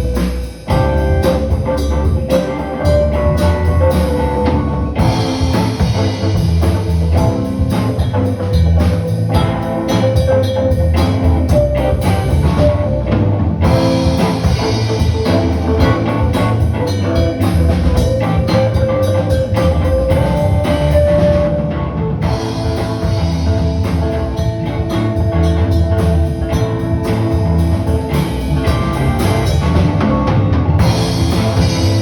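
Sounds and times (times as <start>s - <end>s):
band playing instrumental: 0.0s - 32.0s
drum kit steady beat: 0.0s - 32.0s.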